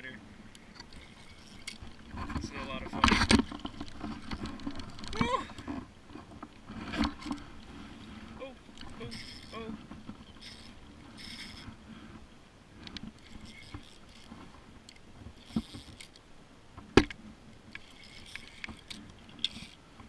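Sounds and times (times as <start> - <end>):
fishing reel handling noise: 0.4 - 5.7, 6.7 - 11.8, 12.8 - 16.3, 17.0 - 20.0.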